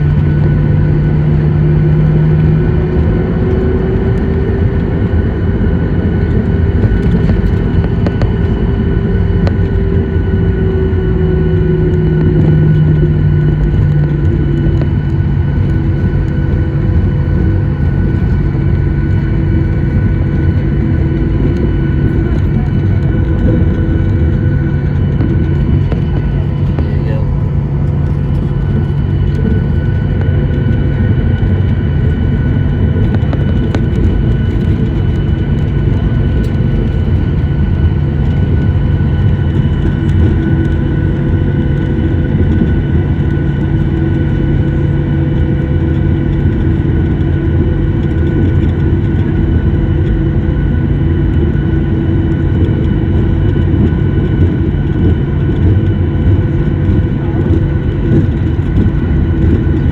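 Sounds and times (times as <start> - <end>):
jet engine cabin rumble: 0.0 - 59.9
jet engine whining tones: 0.0 - 59.9.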